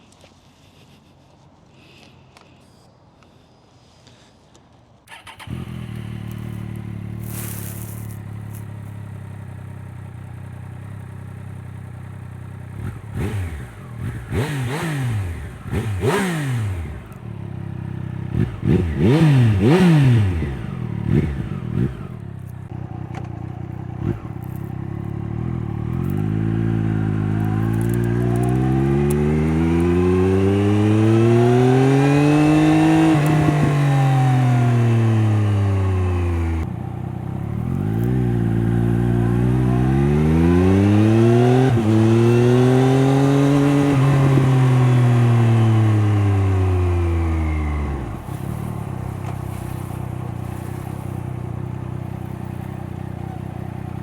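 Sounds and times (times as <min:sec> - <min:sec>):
motorcycle engine accelerating: 0:05.1 - 0:54.0.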